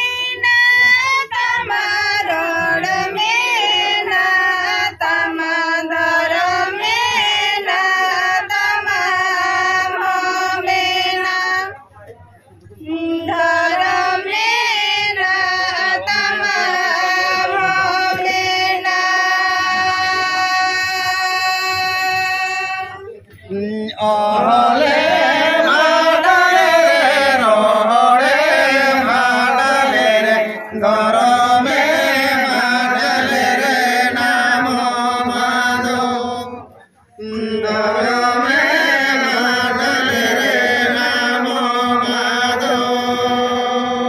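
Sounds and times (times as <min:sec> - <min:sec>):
voices singing a chant: 0:00.0 - 0:12.1, 0:12.8 - 0:44.0.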